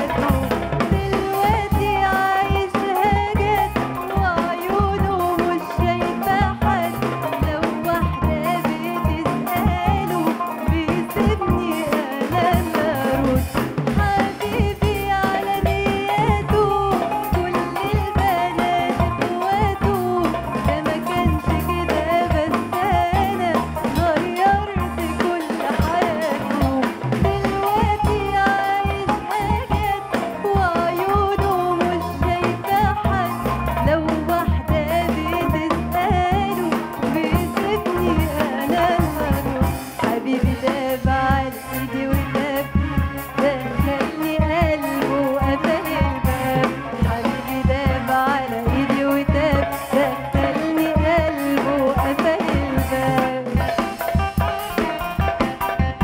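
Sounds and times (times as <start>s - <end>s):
woman singing pop song: 0.0s - 55.0s
band with drum kit: 0.0s - 56.0s.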